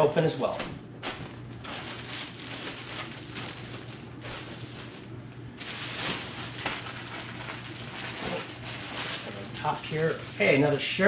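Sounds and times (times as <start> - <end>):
plastic bags crinkling: 1.0 - 11.0.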